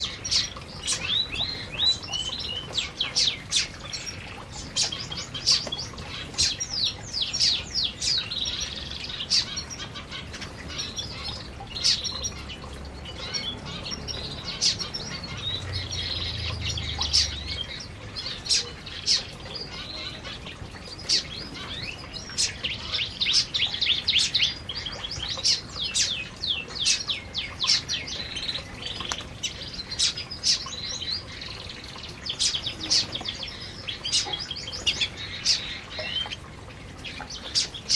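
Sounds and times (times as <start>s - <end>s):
canaries chirping: 0.0s - 37.9s.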